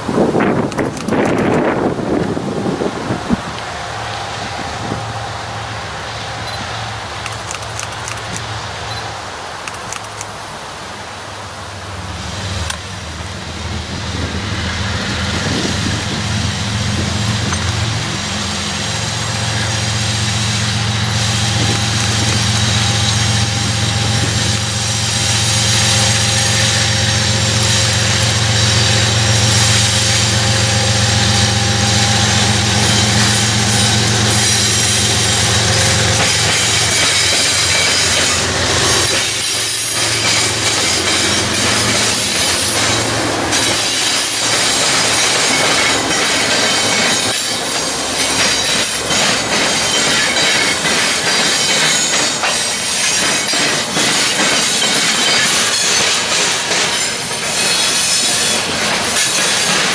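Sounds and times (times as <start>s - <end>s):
diesel locomotive engine drone: 0.0s - 59.9s
train wheels on rails: 0.0s - 59.9s.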